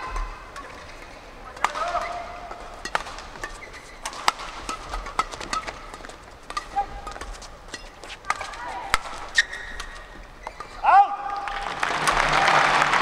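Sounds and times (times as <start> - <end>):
shoes squeaking on court floor: 0.0 - 10.9
rackets striking shuttlecock: 0.0 - 11.5.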